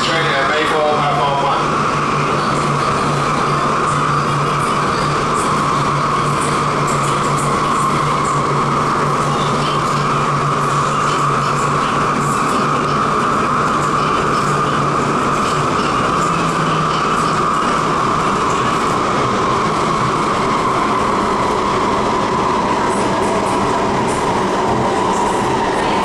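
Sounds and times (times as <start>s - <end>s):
train running on rails: 0.0s - 26.0s.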